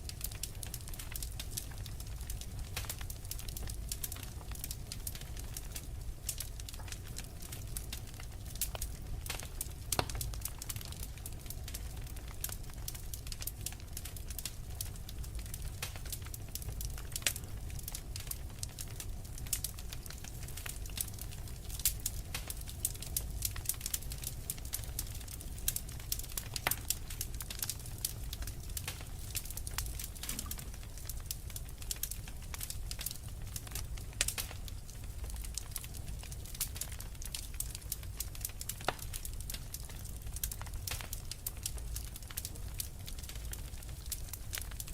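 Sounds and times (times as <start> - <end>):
logs crackling and popping: 0.0 - 44.9
low rumble of flames: 0.0 - 44.9.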